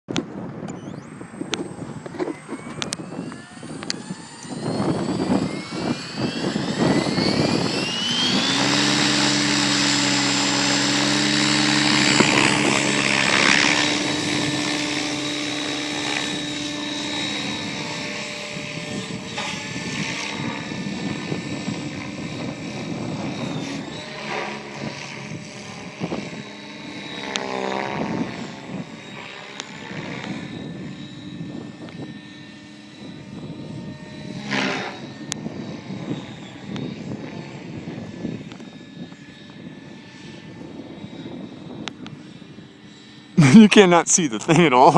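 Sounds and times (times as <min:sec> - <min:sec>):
helicopter motor and rotor whine: 0:00.1 - 0:44.9.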